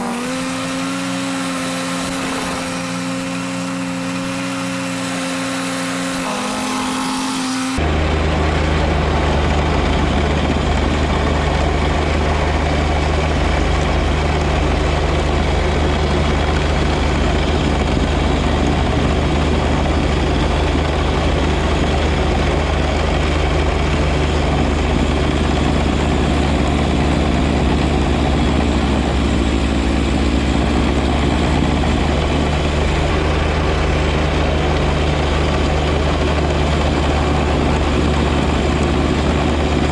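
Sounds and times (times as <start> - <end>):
tractor engine and snow blower: 0.0 - 39.9.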